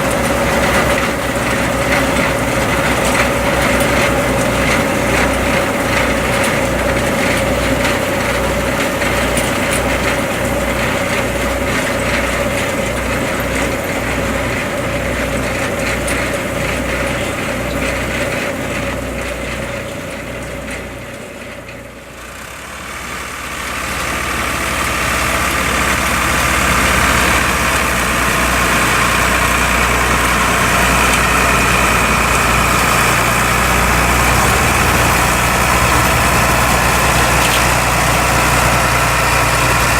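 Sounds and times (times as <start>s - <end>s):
louder engine with high whine: 0.0s - 39.9s
tractor engine running: 0.0s - 39.9s.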